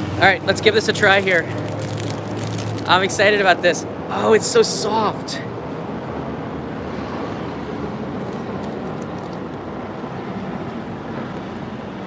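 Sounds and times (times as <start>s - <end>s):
passing cars hum: 0.0s - 12.0s.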